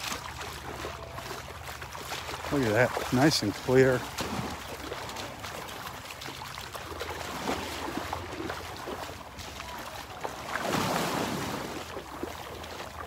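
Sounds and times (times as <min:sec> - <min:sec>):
seawater lapping and sloshing: 0:00.0 - 0:13.0.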